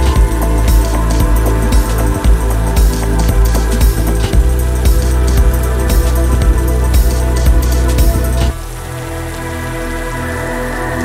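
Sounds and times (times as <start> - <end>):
ambient synth music: 0.0 - 11.0
heavy rain falling: 0.0 - 11.0.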